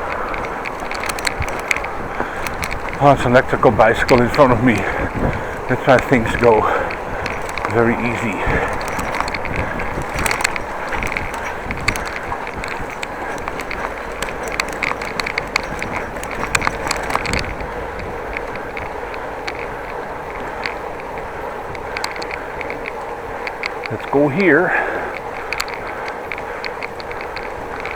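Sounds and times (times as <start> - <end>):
bicycle mechanism clicking: 0.0 - 27.9
tyre and wind rush: 0.0 - 27.9.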